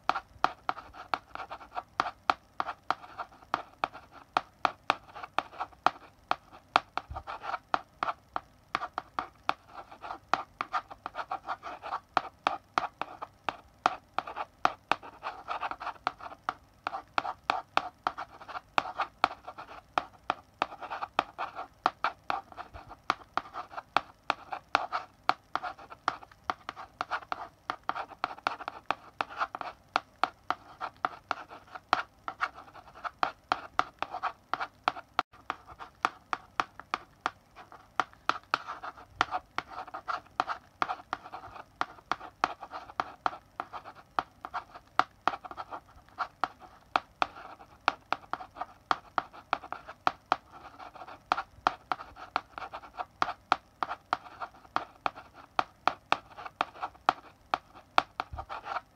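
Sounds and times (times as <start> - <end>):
chalk writing on a blackboard: 0.0 - 58.9.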